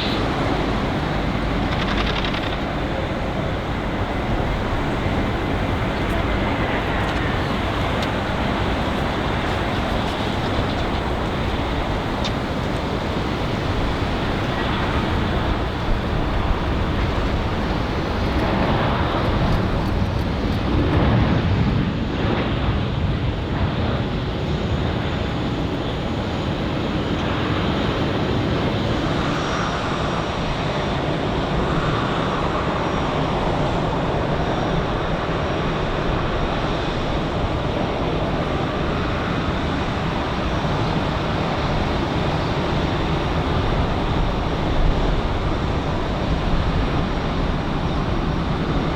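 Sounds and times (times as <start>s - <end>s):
jet airliner landing: 0.0s - 48.9s.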